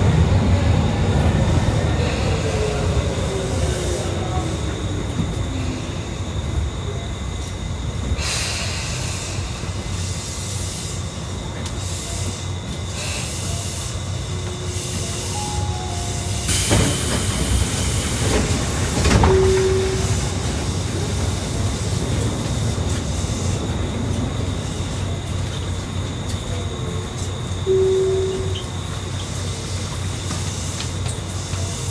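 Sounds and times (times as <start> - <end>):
train wheels rumbling: 0.0 - 31.9.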